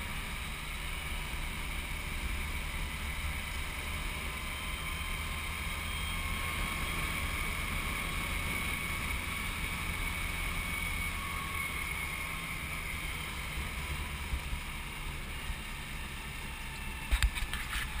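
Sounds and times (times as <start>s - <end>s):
low engine drone: 0.0s - 18.0s
road and wind noise: 0.0s - 18.0s.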